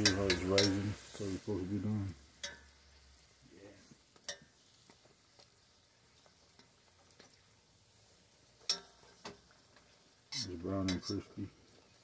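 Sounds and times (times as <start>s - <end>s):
tortilla sizzling in oil: 0.0s - 12.0s.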